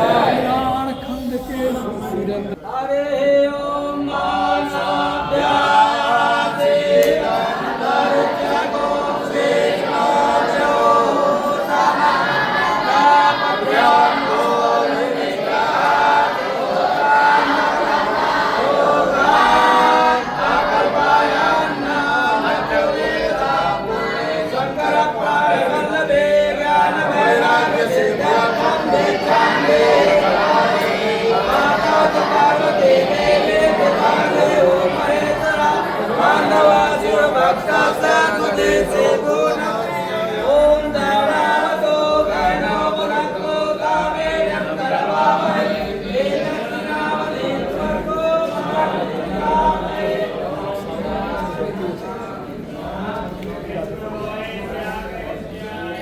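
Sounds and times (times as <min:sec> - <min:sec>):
group singing unaccompanied: 0:00.0 - 0:56.0
voices chanting in unison: 0:00.0 - 0:56.0.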